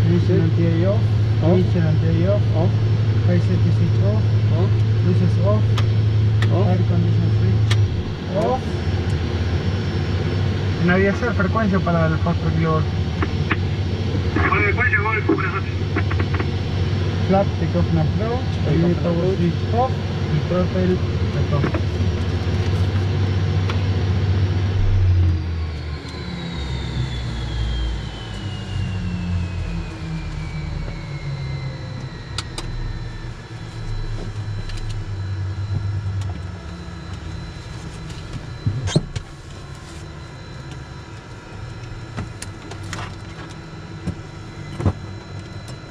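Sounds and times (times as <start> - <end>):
jet engines spooling down: 0.0 - 45.9.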